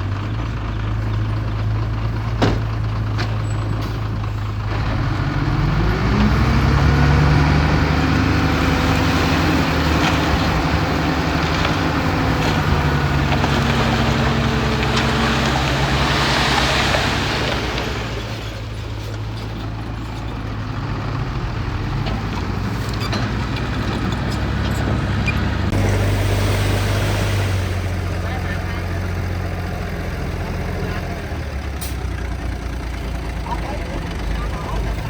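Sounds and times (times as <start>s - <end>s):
heavy diesel machinery running: 0.0s - 35.0s.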